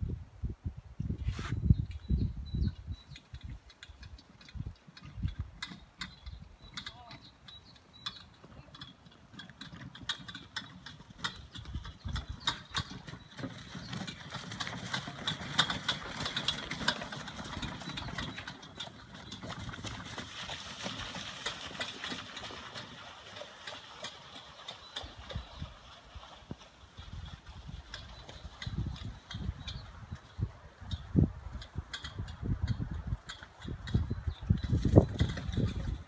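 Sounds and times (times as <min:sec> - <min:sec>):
cart wheels rumbling: 0:02.7 - 0:36.0
hooves clopping on wet sand: 0:02.7 - 0:36.0.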